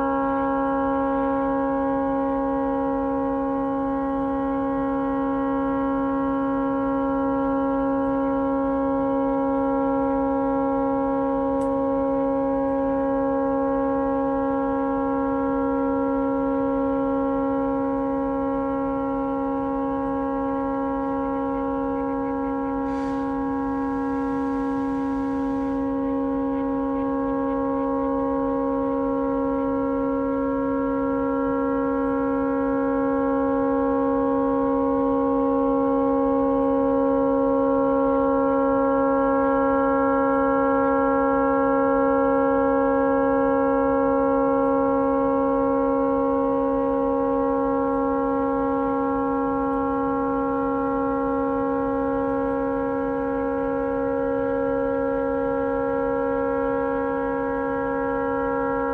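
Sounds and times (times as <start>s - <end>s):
boat horn steady tone: 0.0s - 58.9s.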